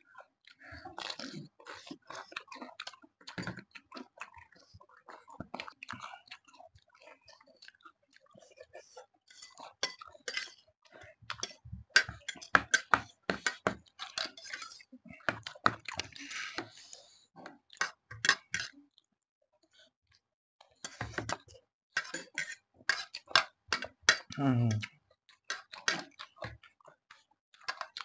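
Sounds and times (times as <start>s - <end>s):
chewing and crisp crunches: 0.1s - 19.9s, 23.0s - 28.0s.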